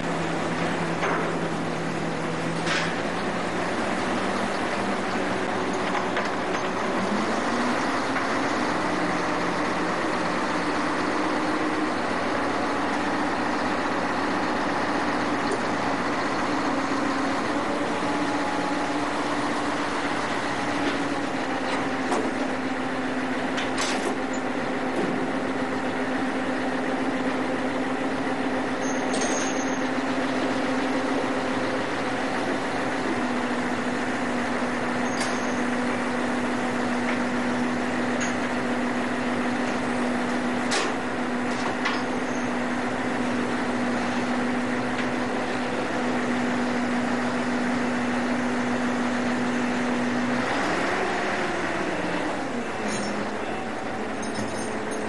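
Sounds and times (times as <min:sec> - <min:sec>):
ship engine running: 0:00.0 - 0:55.0.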